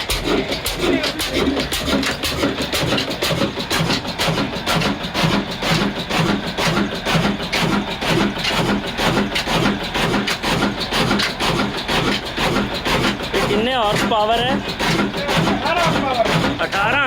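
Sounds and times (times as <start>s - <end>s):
diesel engine exhaust beat: 0.0s - 17.0s.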